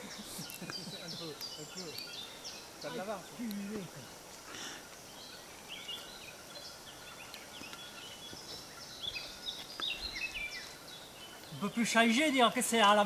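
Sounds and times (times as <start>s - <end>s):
faint background noise: 0.0s - 13.0s
small birds chirping: 0.0s - 13.0s.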